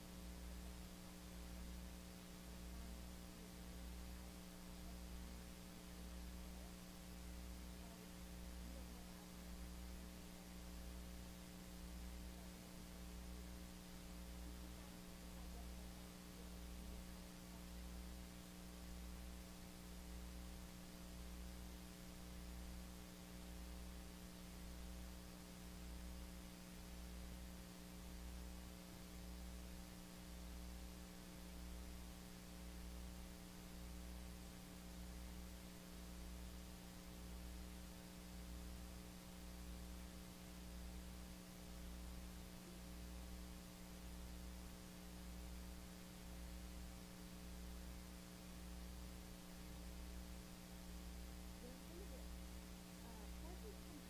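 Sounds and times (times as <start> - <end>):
electrical hum with hiss: 0.0 - 54.0.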